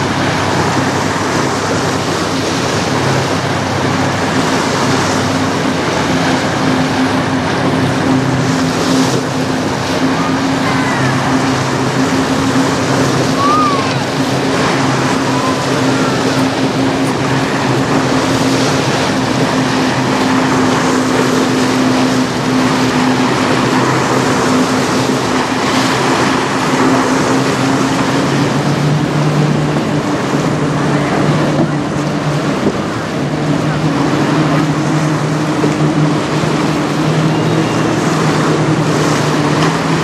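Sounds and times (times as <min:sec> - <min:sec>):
river water rushing: 0:00.0 - 0:40.0
ship engine drone: 0:00.0 - 0:40.0
wind: 0:00.0 - 0:40.0.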